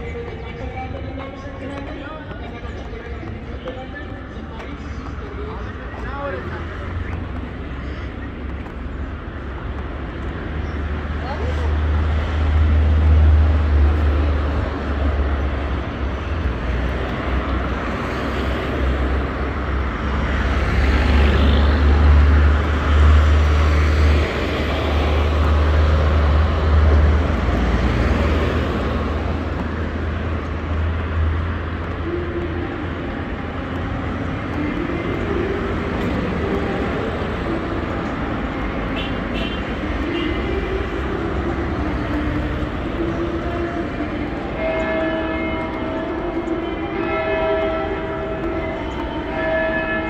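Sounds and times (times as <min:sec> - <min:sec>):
traffic passing on street: 0:00.0 - 0:50.0.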